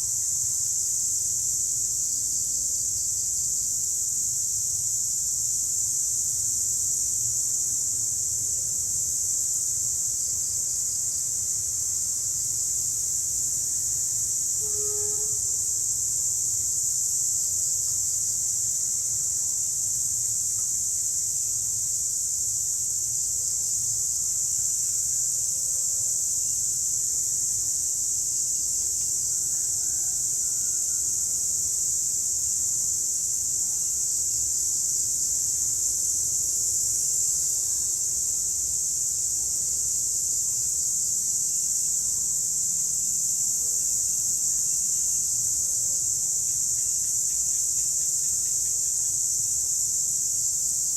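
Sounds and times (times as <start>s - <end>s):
cicadas buzzing: 0.0s - 50.9s.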